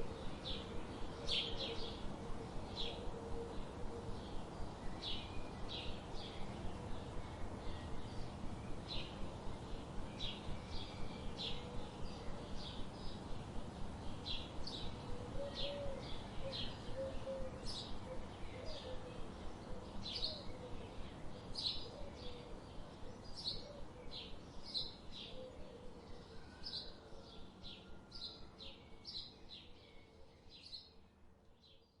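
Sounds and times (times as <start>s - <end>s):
background hiss: 0.0s - 31.8s
songbirds chirping: 0.0s - 32.0s.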